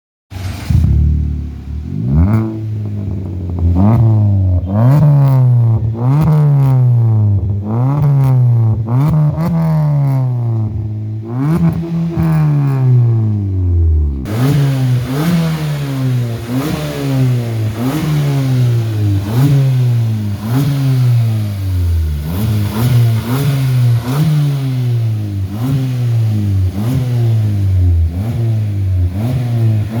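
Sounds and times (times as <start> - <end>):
car engine revving: 0.3 - 30.0.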